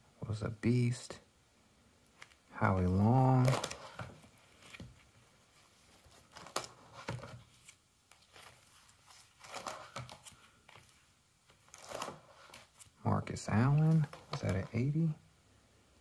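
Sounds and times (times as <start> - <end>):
plastic pages crinkling and rustling: 2.1 - 15.1.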